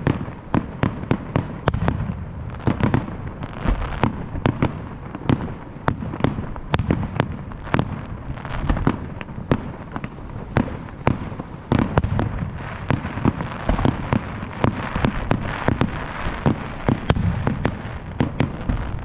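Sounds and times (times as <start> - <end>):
firework crackling: 0.0 - 19.0.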